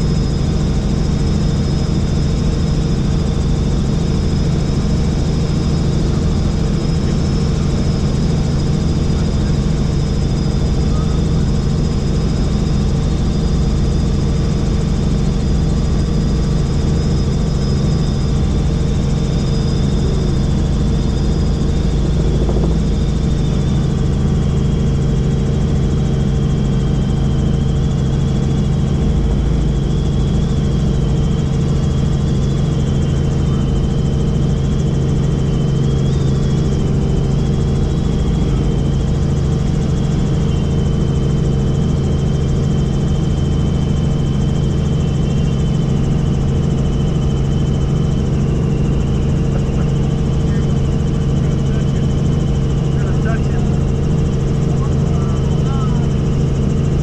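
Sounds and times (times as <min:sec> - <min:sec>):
helicopter rotor and engine: 0:00.0 - 0:57.0
high whine: 0:00.0 - 0:57.0.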